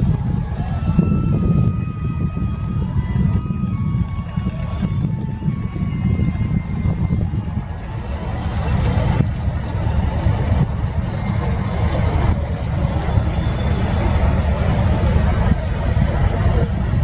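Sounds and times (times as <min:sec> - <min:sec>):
boat engine droning: 0:00.0 - 0:17.0
wind and water hiss: 0:00.0 - 0:17.0.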